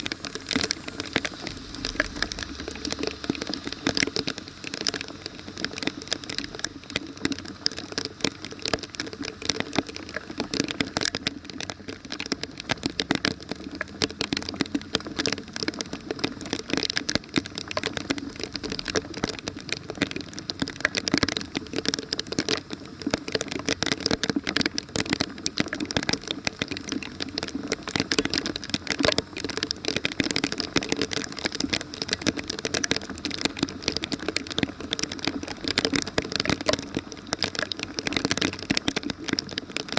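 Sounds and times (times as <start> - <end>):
crackle of clicks and rattles: 0.0 - 39.9
rain pattering: 0.0 - 39.9.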